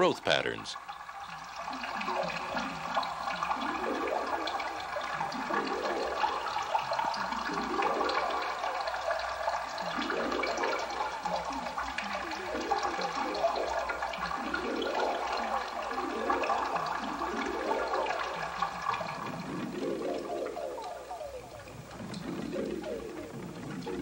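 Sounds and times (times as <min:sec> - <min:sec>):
bubbling gurgling water: 0:00.0 - 0:24.0.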